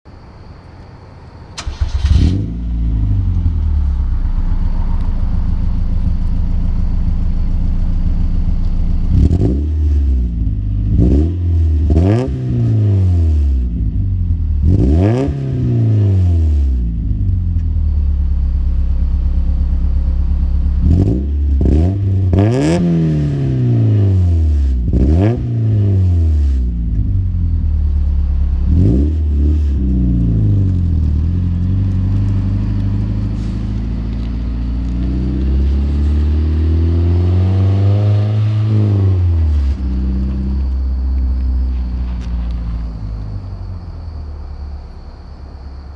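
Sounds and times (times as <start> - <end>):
car engine starting: 1.4 - 45.9
car engine revving: 1.6 - 45.9.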